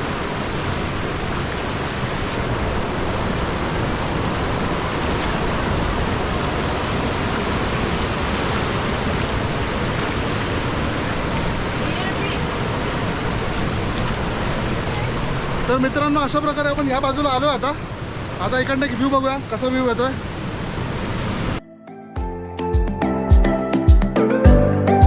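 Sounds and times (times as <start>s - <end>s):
waterfall rushing: 0.0s - 21.6s.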